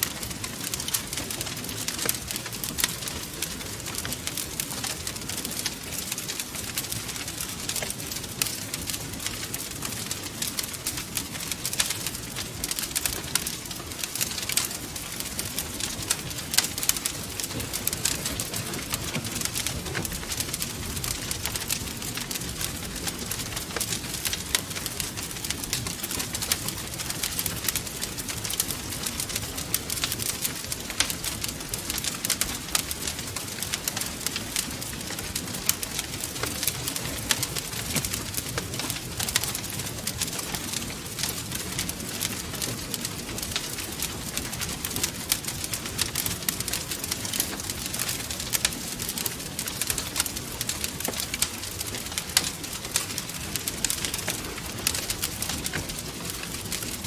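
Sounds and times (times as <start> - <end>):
fire crackling: 0.0 - 57.0
low rumble of flame: 0.0 - 57.0.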